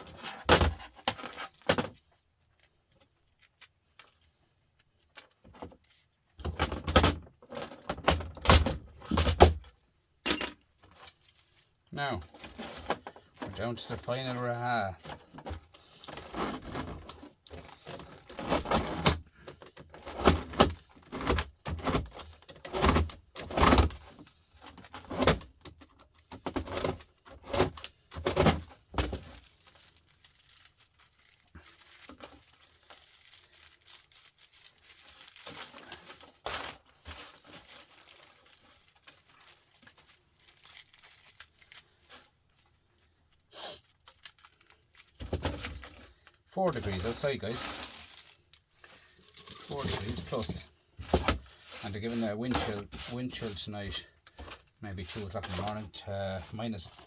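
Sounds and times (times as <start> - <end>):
metal fins crumpling and clicking: 0.0 - 57.0.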